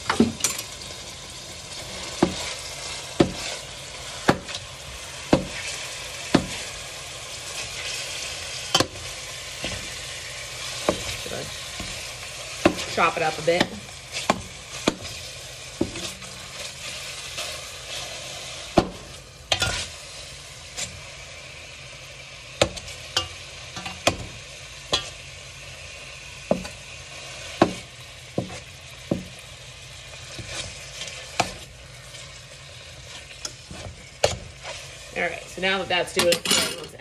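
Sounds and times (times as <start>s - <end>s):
meat sizzling in oil: 0.0s - 36.5s.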